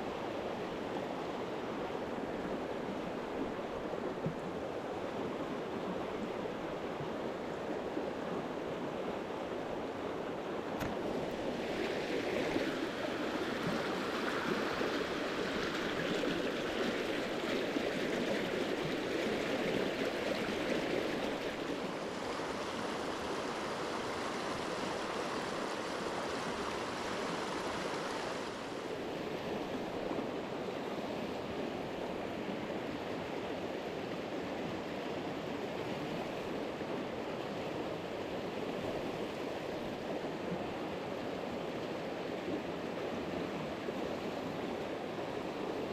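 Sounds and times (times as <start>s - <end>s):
mountain stream flowing: 0.0s - 45.9s.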